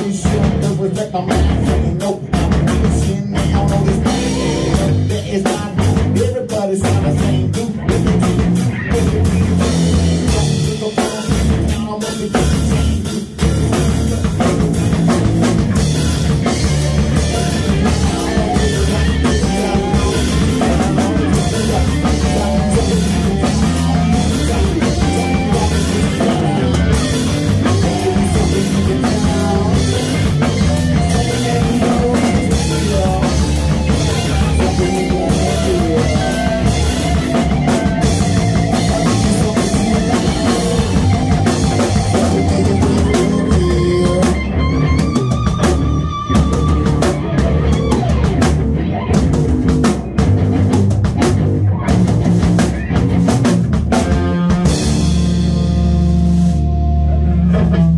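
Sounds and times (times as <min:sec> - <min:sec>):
man on microphone: 0:00.0 - 0:48.4
drum kit: 0:00.0 - 0:57.9
electric bass: 0:00.0 - 0:57.9
electric guitar: 0:00.0 - 0:57.9.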